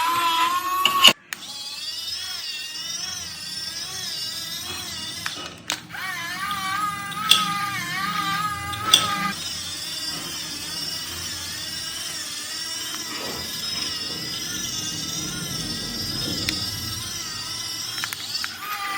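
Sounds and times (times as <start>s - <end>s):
small electric motor whining: 0.0s - 18.9s
lower wavering tone: 3.2s - 18.6s.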